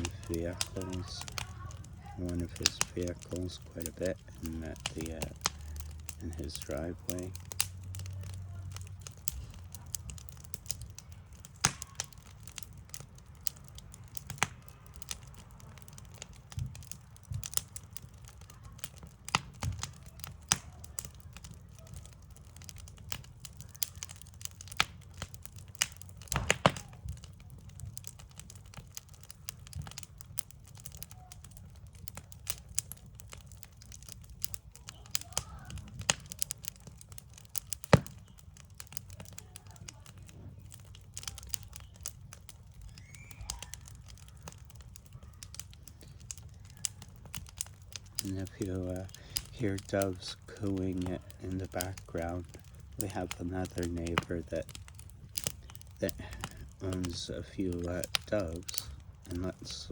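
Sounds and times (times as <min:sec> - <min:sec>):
sharp pops and snaps: 0:00.0 - 0:59.9
wood fire crackling: 0:00.0 - 0:59.9.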